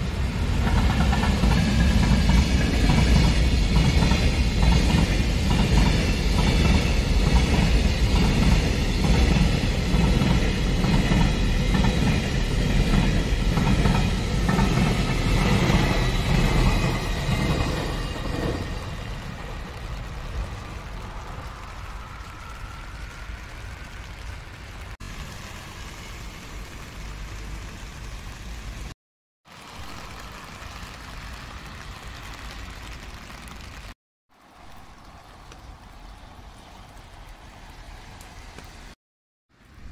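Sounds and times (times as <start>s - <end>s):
rain hissing on wet road: 0.0s - 39.9s.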